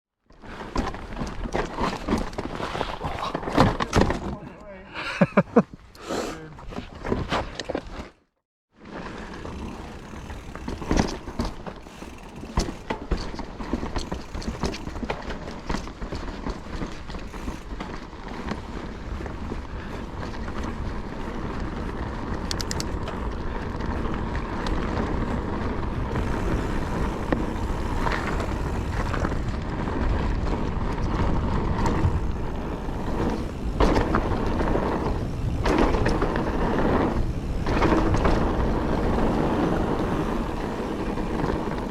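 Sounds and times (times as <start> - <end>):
bike tyres on dirt trail: 0.2 - 41.9
bike clicks and rattles: 0.3 - 5.4, 8.8 - 41.9.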